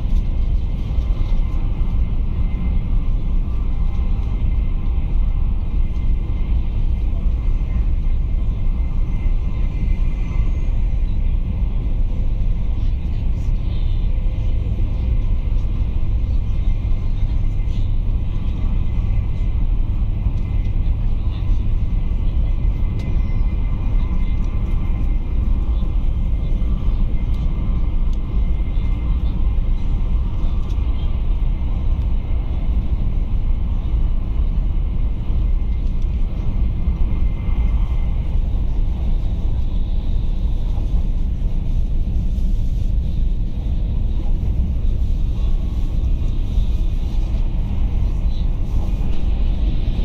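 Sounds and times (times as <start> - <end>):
train cabin rumble: 0.0 - 50.0.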